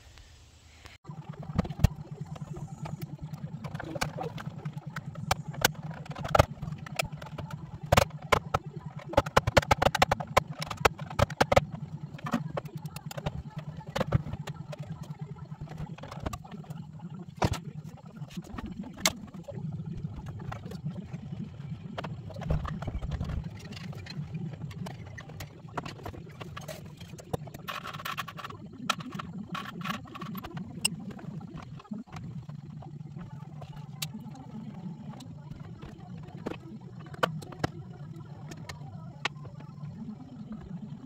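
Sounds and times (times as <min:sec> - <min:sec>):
steady low hum: 0:00.4 - 0:41.0.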